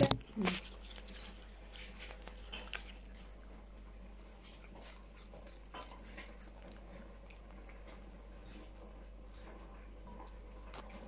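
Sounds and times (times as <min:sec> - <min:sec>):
dog chewing apple: 0:00.0 - 0:11.0.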